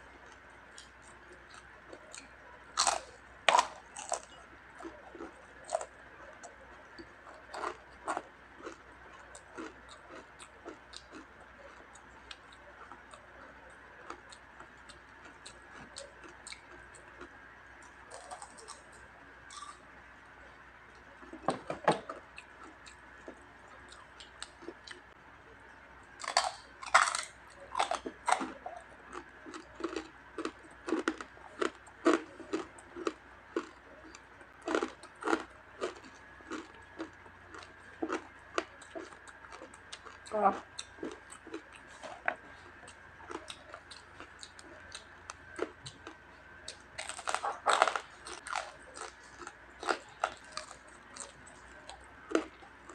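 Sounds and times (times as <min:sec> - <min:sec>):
person crunching crispy food: 0:00.3 - 0:19.9, 0:26.2 - 0:52.9.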